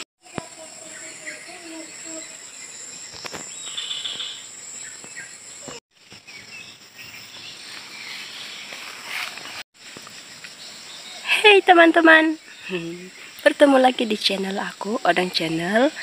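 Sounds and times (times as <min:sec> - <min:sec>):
insect chirp: 0:00.2 - 0:16.0
insects droning: 0:00.2 - 0:16.0.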